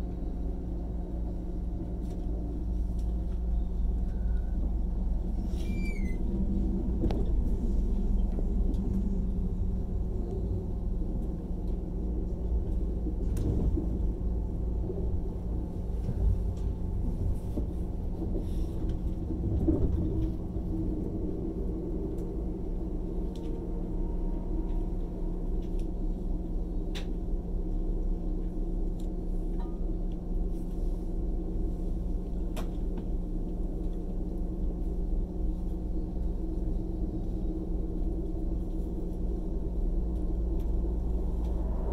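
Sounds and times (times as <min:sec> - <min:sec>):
train interior rumble: 0:00.0 - 0:41.9.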